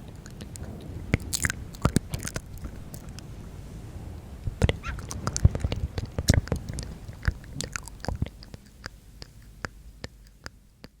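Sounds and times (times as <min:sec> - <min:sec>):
wet mouth clicks and lip smacks: 0:00.0 - 0:03.2, 0:04.6 - 0:11.0.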